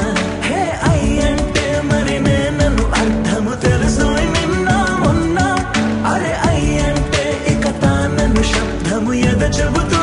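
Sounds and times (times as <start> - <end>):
film song instrumental music: 0.0 - 10.0.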